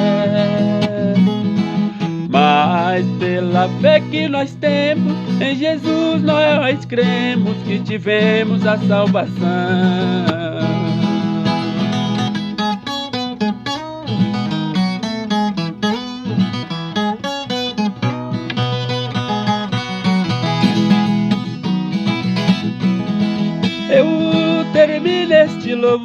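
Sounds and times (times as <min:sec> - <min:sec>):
folk guitar plucked and strummed: 0:00.0 - 0:26.0.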